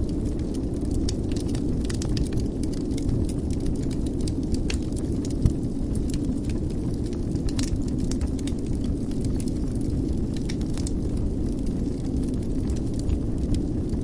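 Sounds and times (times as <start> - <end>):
low rumble of fire: 0.0 - 14.0
wood fire crackling and popping: 0.0 - 14.0.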